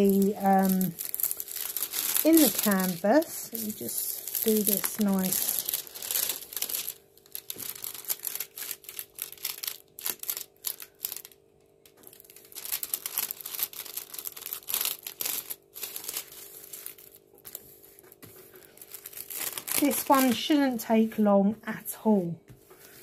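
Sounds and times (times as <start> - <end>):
plastic film crinkling: 0.0 - 21.2.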